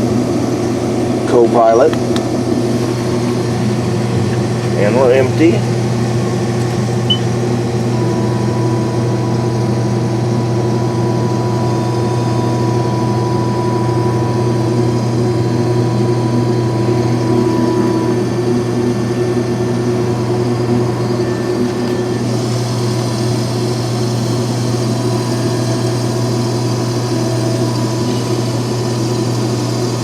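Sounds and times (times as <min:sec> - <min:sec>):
diesel engine low drone: 0:00.0 - 0:30.0
thin high whine: 0:00.0 - 0:30.0.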